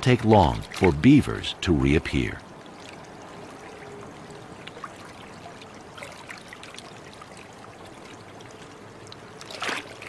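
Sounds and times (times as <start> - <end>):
river water trickling: 0.0 - 10.0.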